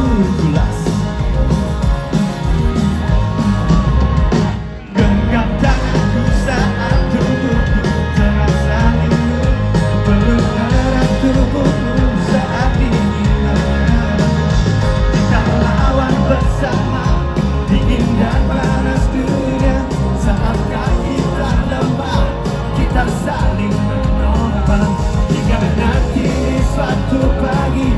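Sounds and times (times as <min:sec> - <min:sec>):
pop-rock band playing loudly: 0:00.0 - 0:27.9
singing or crowd voices: 0:00.0 - 0:27.9.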